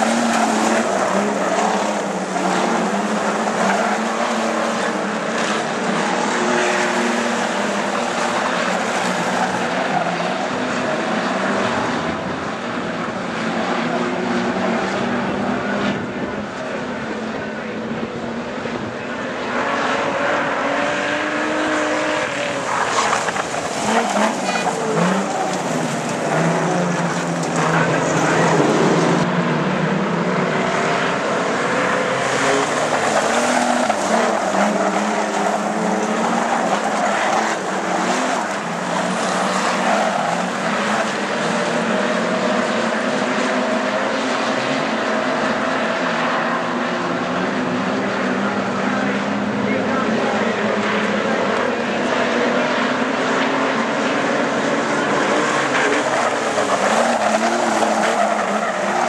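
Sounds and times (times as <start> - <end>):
race car engines: 0.0 - 59.0.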